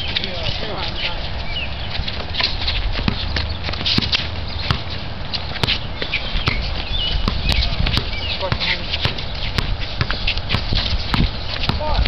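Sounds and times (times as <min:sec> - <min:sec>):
sneaker footsteps: 0:00.0 - 0:12.0
basketball bouncing on concrete: 0:02.1 - 0:12.0.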